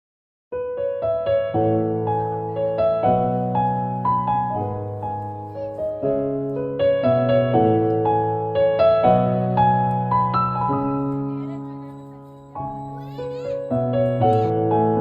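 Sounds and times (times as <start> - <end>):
slow keyboard music: 0.6 - 15.0.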